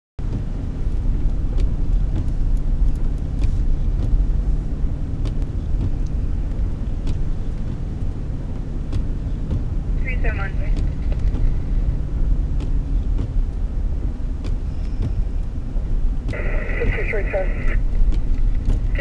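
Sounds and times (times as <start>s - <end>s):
car road and engine rumble: 0.2s - 19.0s.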